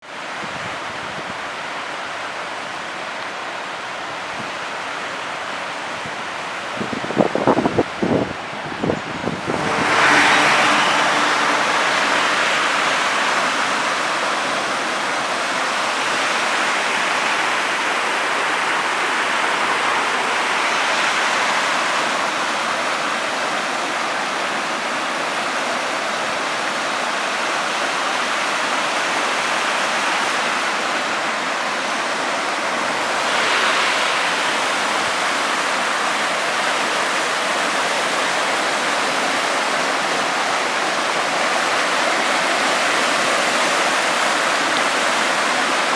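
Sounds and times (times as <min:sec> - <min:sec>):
waterfalls rushing: 0:00.0 - 0:45.9.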